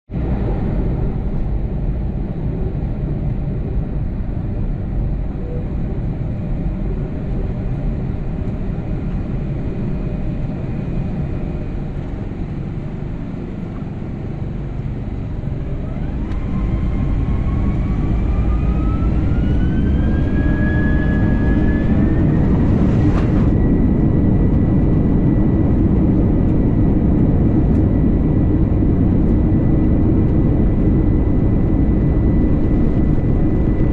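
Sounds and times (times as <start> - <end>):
jet engines rumbling: 0.1 - 33.9
jet engine whine rising: 0.2 - 33.9.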